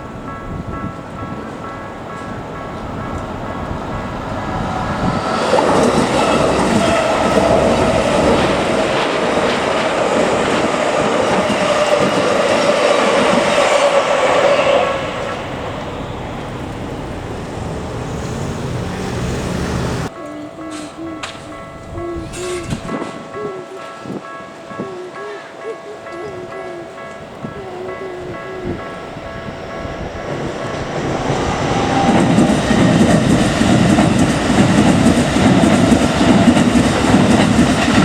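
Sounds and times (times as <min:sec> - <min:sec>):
crossing warning bell ringing: 0:00.0 - 0:38.0
electric train passing: 0:00.0 - 0:38.0.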